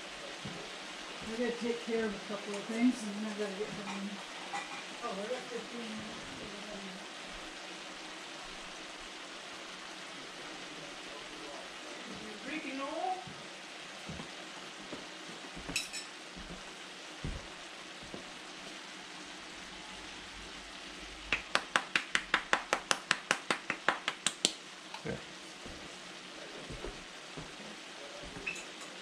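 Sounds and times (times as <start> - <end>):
food sizzling in skillet: 0.0 - 29.0.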